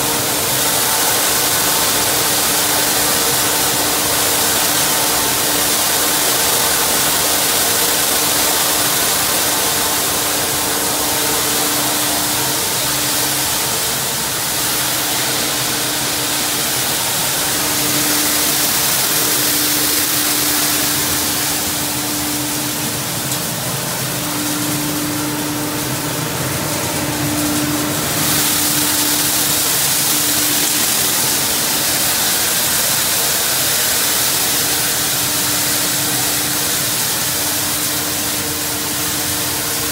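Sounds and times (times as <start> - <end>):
machine running with hiss and hum: 0.0 - 39.9.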